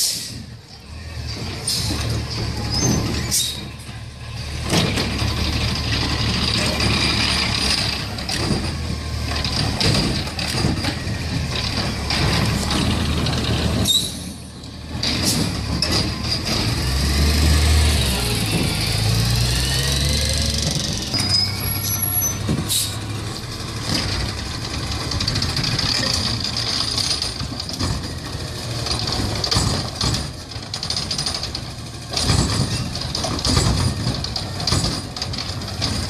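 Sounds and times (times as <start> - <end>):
garbage truck engine: 0.0 - 36.0
cart knocking and banging: 1.2 - 36.0.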